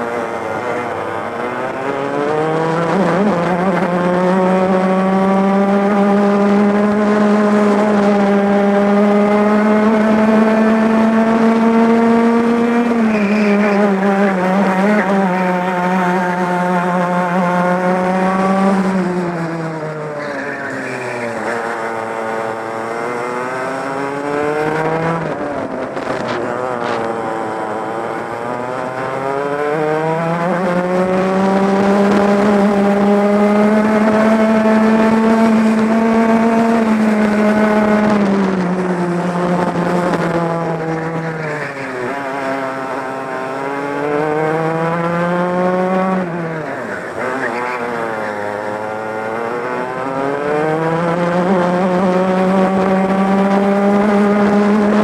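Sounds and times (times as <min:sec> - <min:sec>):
two-stroke kart engine revving: 0:00.0 - 0:55.0.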